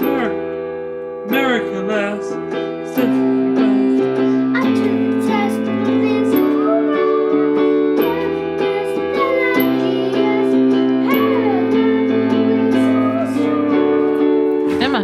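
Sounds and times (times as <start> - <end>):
instrument playing chords and melody: 0.0 - 15.0.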